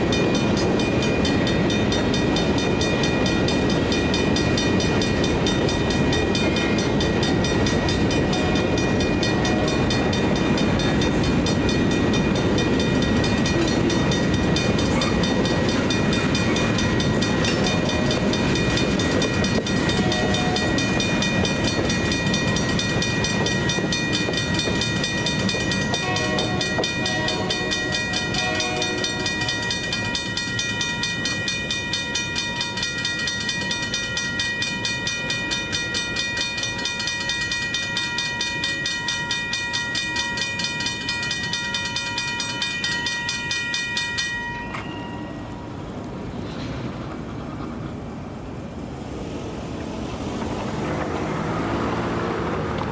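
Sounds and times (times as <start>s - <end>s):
train wheels clattering over rails: 0.0s - 45.0s, 45.6s - 52.9s
crossing bells ringing: 0.0s - 46.9s, 48.0s - 52.9s.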